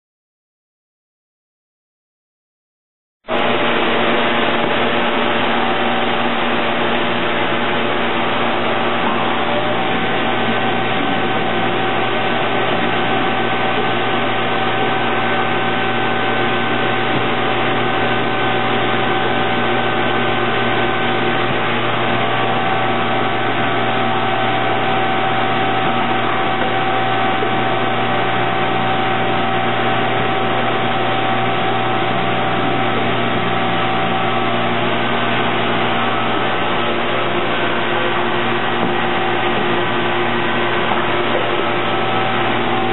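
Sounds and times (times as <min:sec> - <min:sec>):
factory machinery drone: 0:03.3 - 0:42.9.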